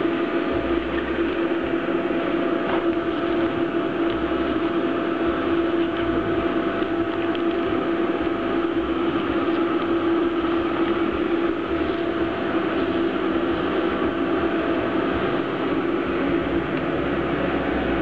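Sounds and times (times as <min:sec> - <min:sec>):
workshop machinery humming: 0:00.0 - 0:18.0.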